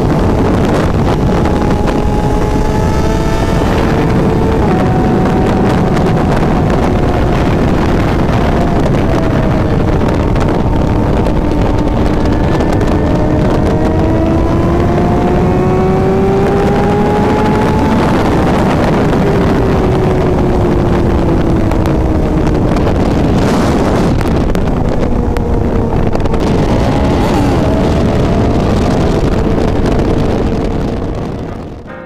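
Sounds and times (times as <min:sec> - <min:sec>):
motorcycle engine revving: 0:00.0 - 0:31.9
wind rush on microphone: 0:00.0 - 0:32.0.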